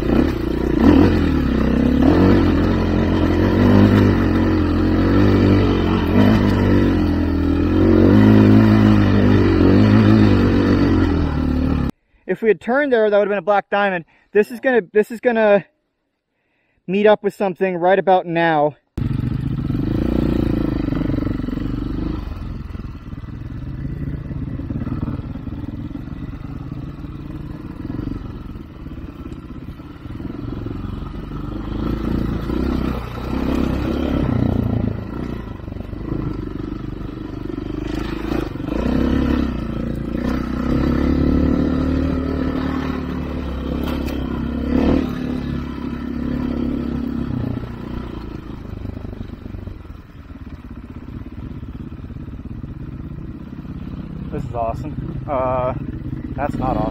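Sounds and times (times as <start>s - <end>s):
dirt bike engine revving: 0.0s - 11.9s, 19.0s - 56.9s.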